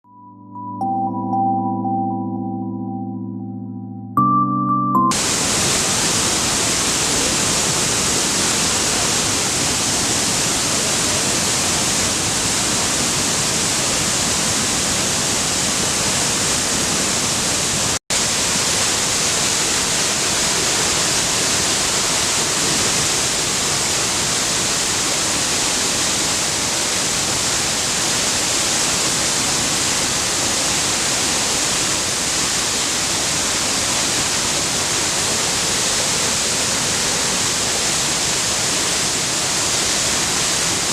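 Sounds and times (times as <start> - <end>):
waterfall rushing: 5.1 - 40.9.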